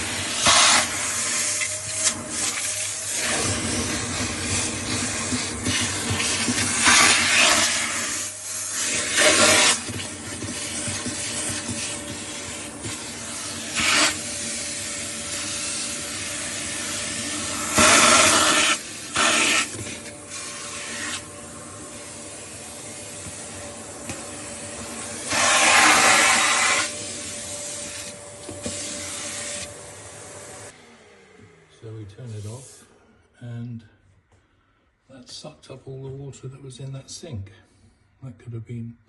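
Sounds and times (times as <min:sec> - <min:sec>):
wet and dry vacuum sucking water: 0:00.0 - 0:32.8.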